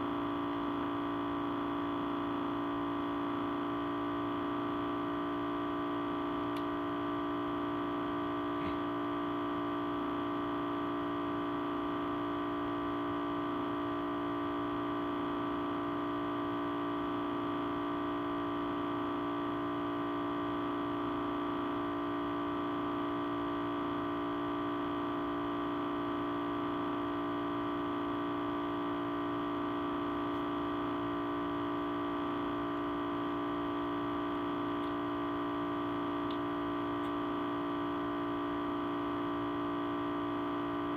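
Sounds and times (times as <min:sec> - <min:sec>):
audio feedback hum: 0:00.0 - 0:40.9.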